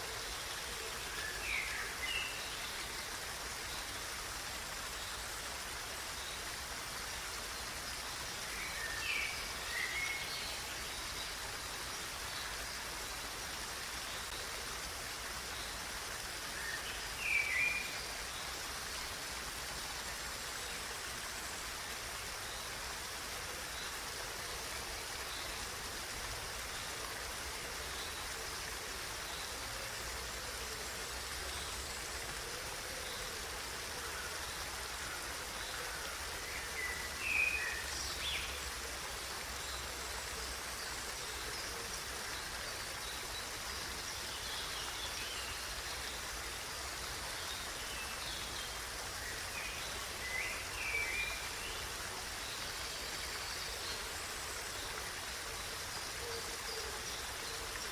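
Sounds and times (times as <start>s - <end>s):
running water rushing: 0.0s - 57.9s.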